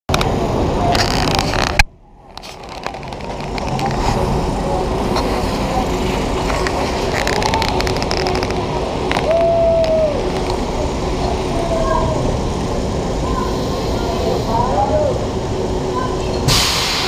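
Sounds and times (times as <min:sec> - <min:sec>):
amusement park background noise: 0:00.1 - 0:17.0.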